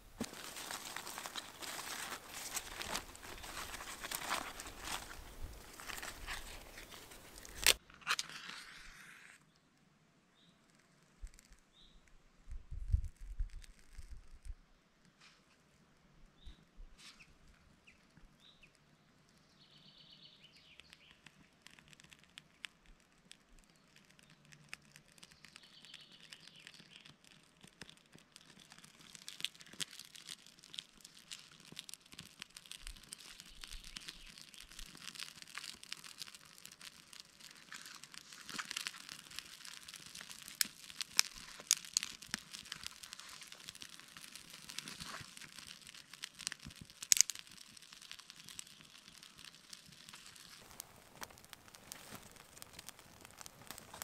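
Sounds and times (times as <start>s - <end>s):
campfire crackling: 0.0s - 8.4s, 17.4s - 54.0s
fire popping: 0.0s - 9.0s, 10.7s - 14.6s, 17.2s - 54.0s.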